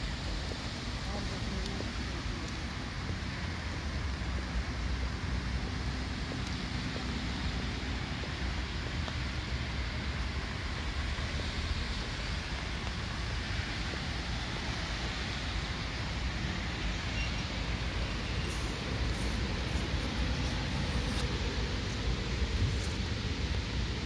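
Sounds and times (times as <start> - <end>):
distant road traffic hum: 0.0 - 24.0
wind rumbling on microphone: 0.0 - 24.0.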